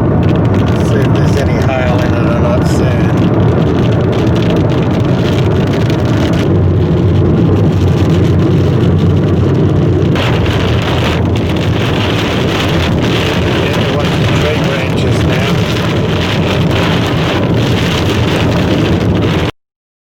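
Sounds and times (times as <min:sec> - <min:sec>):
heavy rain on car roof: 0:00.0 - 0:19.5
low rumble of car: 0:00.0 - 0:19.5.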